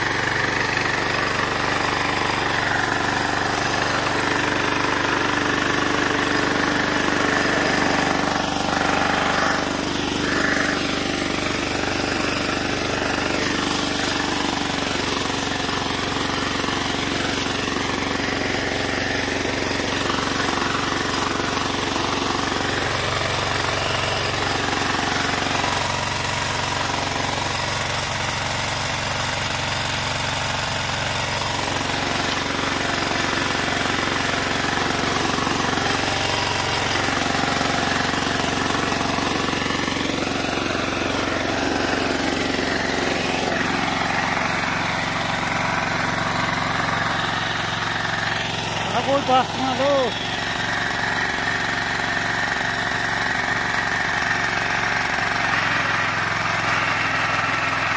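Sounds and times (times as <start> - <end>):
tiller engine running rattling: 0.0 - 57.9
tines churning soil: 0.0 - 57.9.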